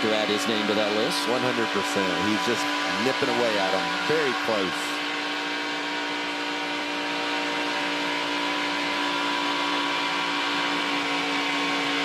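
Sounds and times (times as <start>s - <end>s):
engine high-pitched drone: 0.0s - 12.0s.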